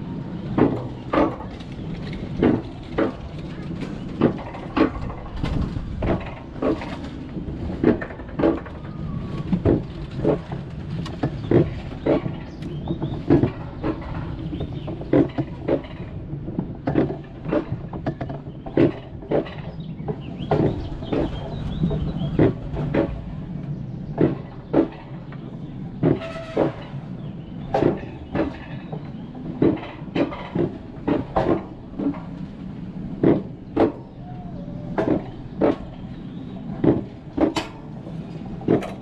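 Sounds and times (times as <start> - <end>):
coaster sled rumbling on rail: 0.0 - 39.0
sharp clack of rail: 0.4 - 39.0.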